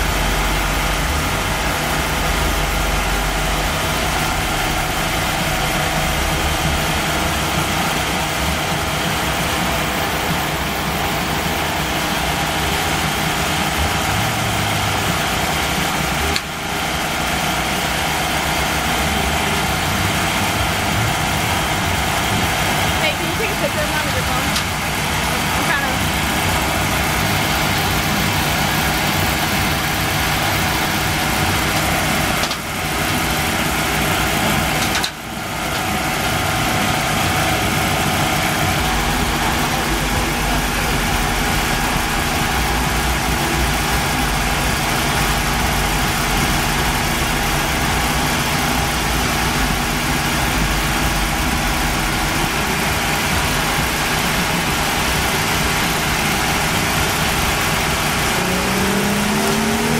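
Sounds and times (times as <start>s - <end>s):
car engine idling: 0.0s - 59.9s
large cooling fan rushing: 0.0s - 59.9s.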